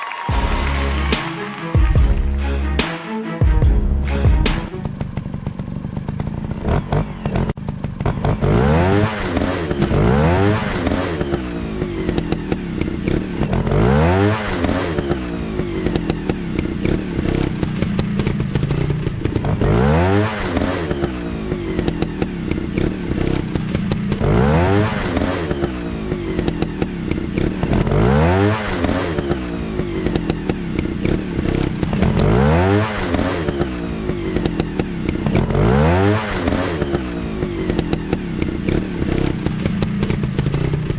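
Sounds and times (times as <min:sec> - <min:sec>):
dirt bike engines revving: 0:04.5 - 0:40.9.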